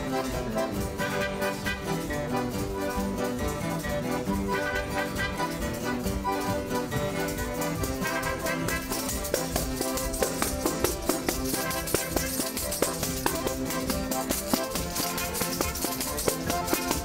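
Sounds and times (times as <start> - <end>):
held melodic notes: 0.0 - 17.0.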